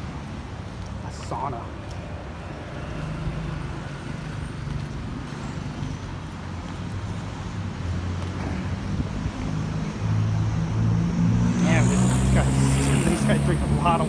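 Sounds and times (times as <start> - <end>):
road noise: 0.0 - 14.0
vehicle engines running: 0.0 - 14.0.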